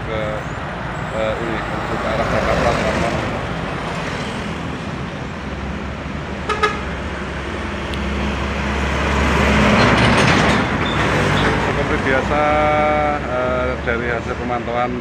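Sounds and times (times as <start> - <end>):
trucks passing by: 0.0 - 15.0.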